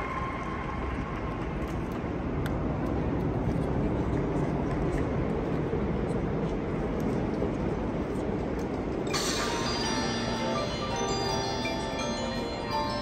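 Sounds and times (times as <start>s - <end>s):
low rumbling stadium ambience: 0.0s - 13.0s.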